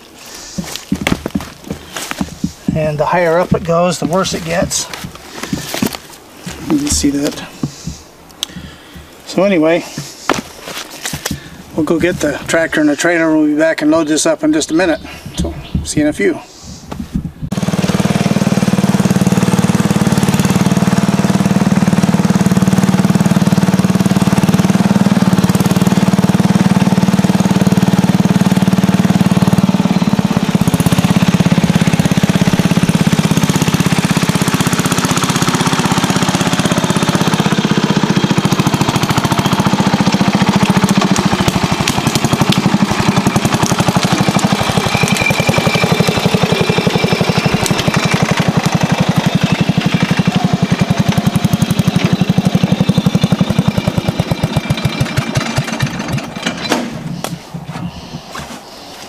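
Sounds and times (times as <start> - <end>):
garden tractor engine running: 0.0 - 16.3, 17.5 - 59.0.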